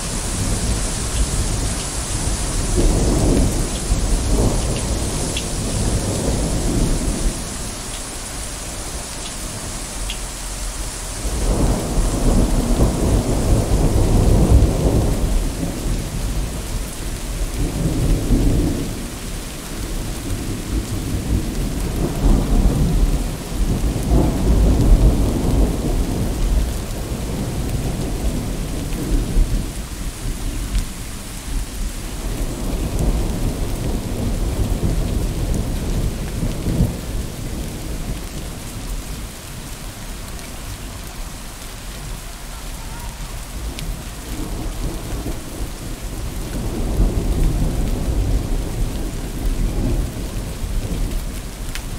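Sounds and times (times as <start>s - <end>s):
rolling thunder: 0.0s - 9.7s, 11.1s - 30.8s, 31.5s - 39.7s, 43.0s - 51.9s
rain on water and foliage: 0.0s - 51.9s.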